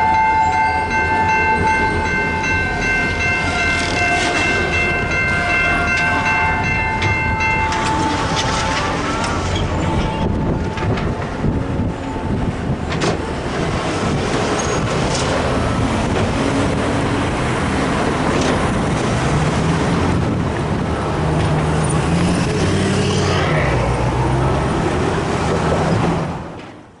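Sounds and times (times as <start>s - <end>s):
vehicles crossing railroad tracks: 0.0s - 27.0s
engine and tyre noise: 1.2s - 27.0s.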